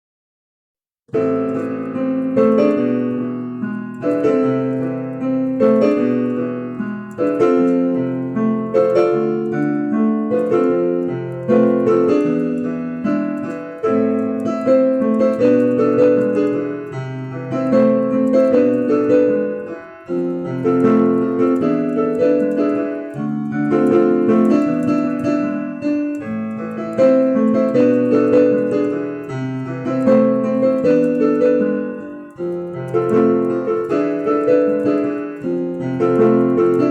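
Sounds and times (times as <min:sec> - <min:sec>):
solo piano music: 0:01.0 - 0:36.9.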